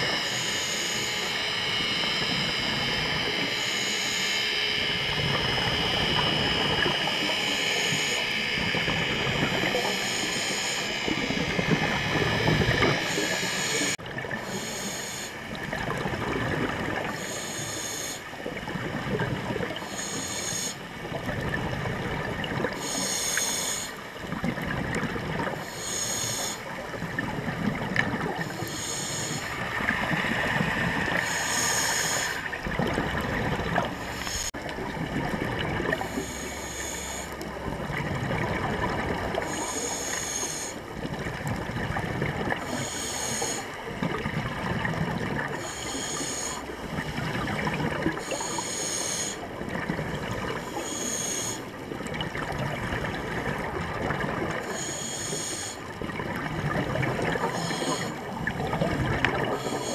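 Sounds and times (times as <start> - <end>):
regulator bubbles hissing: 0.0 - 59.9
watery rumble: 0.0 - 59.9.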